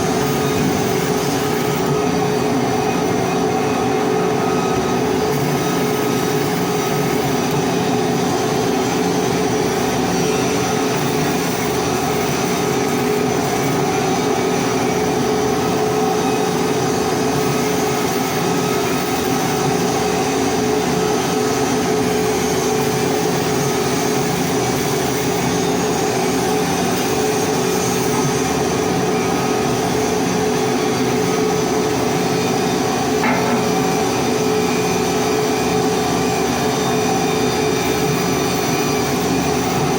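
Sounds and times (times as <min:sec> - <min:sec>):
welding equipment droning: 0:00.0 - 0:39.9.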